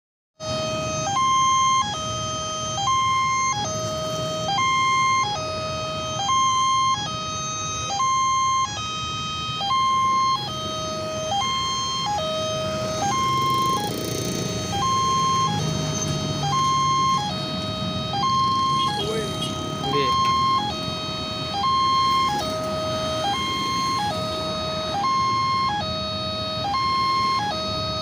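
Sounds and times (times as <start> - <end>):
level crossing warning siren: 0.4 - 28.0.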